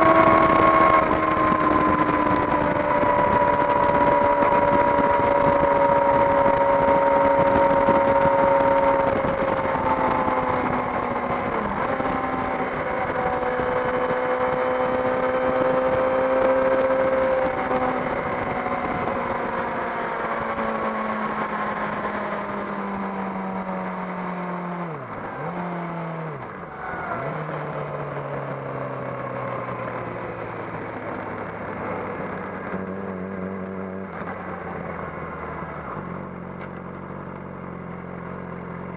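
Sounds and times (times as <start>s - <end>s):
motorcycle engine at speed: 0.0s - 38.9s.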